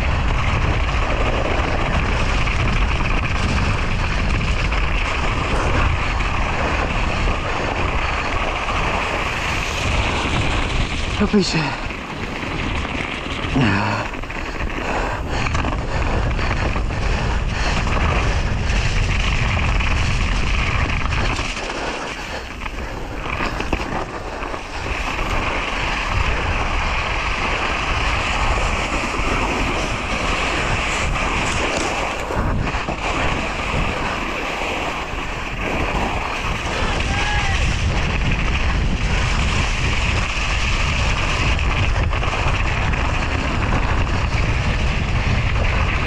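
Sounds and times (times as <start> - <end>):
bike tyres rattling on rough ground: 0.0 - 46.0
wind buffeting microphone: 0.0 - 46.0.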